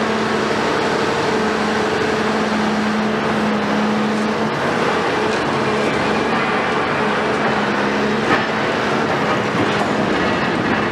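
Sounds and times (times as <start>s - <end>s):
excavator diesel engine running: 0.0s - 10.9s.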